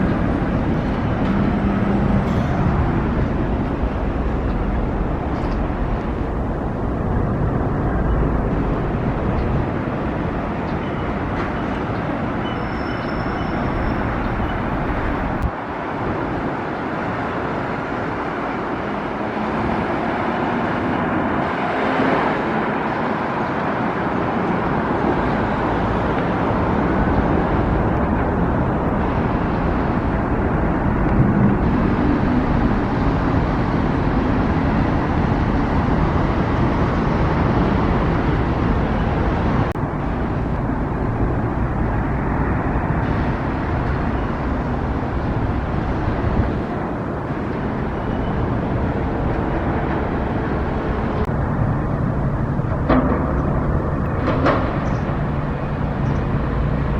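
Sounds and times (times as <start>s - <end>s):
vehicle engines and tyre noise: 0.0s - 56.9s.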